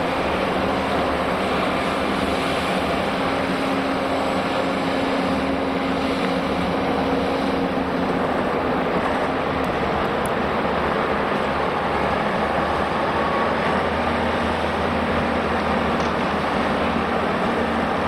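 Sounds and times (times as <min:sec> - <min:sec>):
heavy diesel machinery running: 0:00.0 - 0:18.0.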